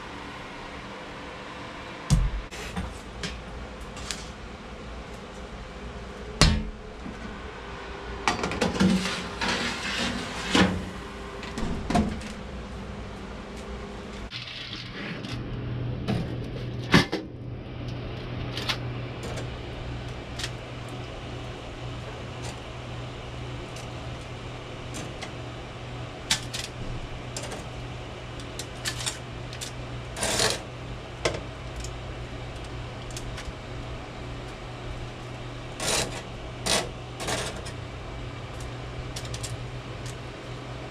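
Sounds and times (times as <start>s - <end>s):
air fryer fan hum: 0.0s - 40.9s.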